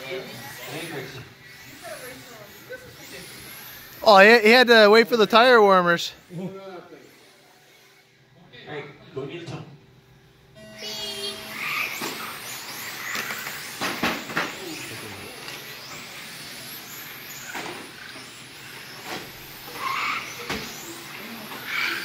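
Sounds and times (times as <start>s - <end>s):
rc car motors whining: 0.0s - 8.3s, 10.3s - 22.0s.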